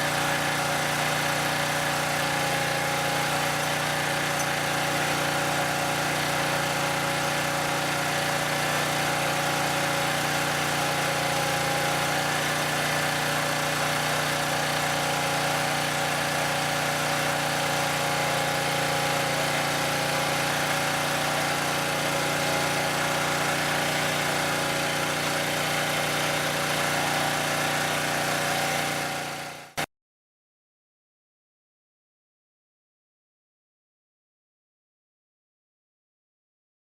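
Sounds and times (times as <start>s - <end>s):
small gasoline engine idling: 0.0s - 29.9s.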